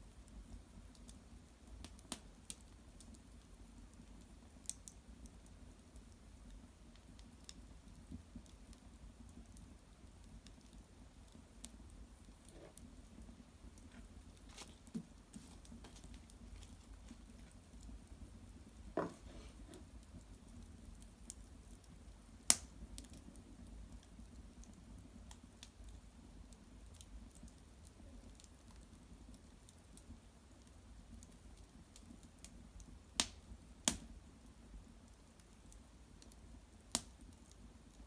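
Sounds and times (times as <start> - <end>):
small wood fire crackling: 0.0 - 38.0.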